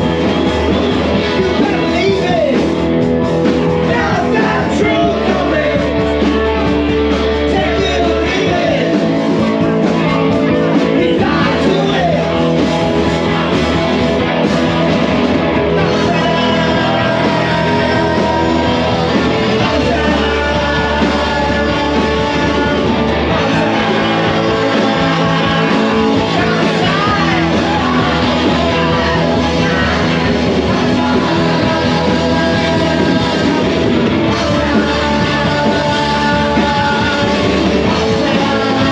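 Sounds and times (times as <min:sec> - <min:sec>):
live rock band playing: 0:00.0 - 0:38.9
person singing: 0:00.0 - 0:38.9.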